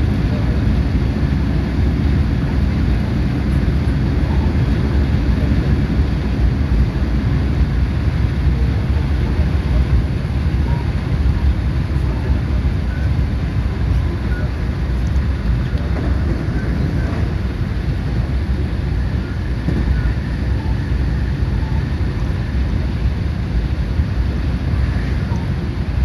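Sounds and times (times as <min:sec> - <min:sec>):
low rumble of train wheels: 0:00.0 - 0:26.0.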